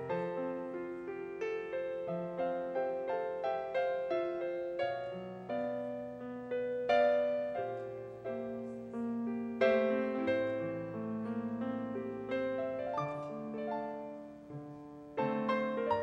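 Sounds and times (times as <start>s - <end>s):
slow gentle piano: 0.0s - 16.0s.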